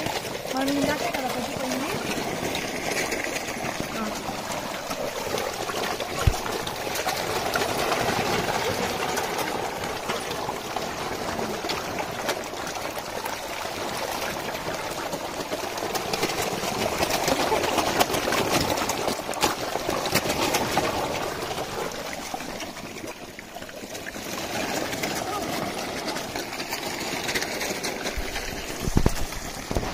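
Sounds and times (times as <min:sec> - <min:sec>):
fish splashing in water: 0:00.0 - 0:29.9.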